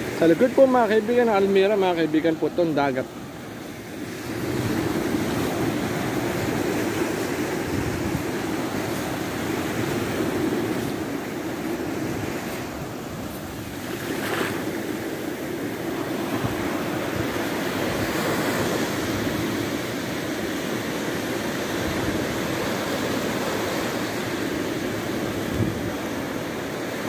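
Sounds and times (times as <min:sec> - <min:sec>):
waves breaking on sandy beach: 0:00.0 - 0:27.0.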